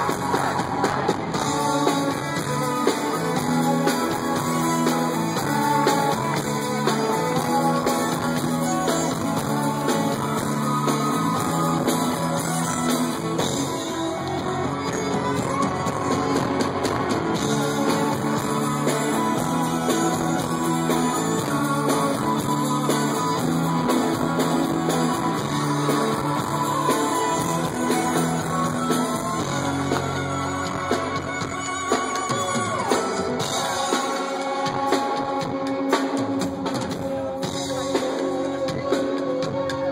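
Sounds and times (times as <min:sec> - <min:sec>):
live rock band: 0:00.0 - 0:39.9.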